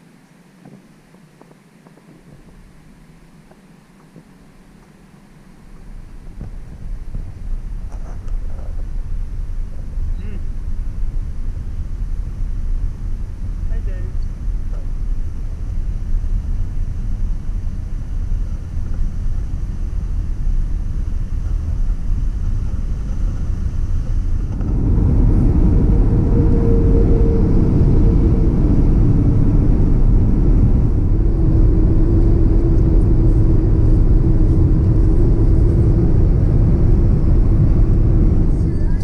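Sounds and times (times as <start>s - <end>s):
faint steady hum: 0.0s - 39.0s
low rumble: 5.7s - 39.0s.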